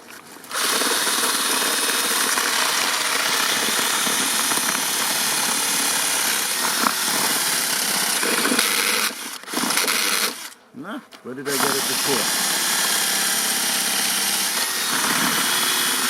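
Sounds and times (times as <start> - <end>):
power tool working into wood: 0.0 - 10.6, 11.5 - 16.0.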